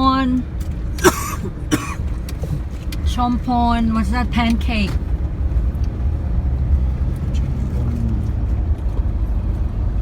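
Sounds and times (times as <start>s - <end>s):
road and engine rumble in car: 0.0s - 10.0s.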